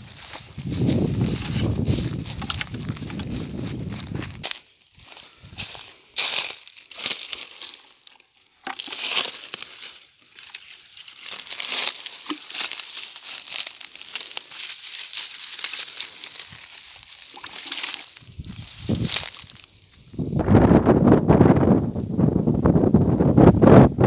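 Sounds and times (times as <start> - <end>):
footsteps crunching dry leaves: 0.0 - 20.4.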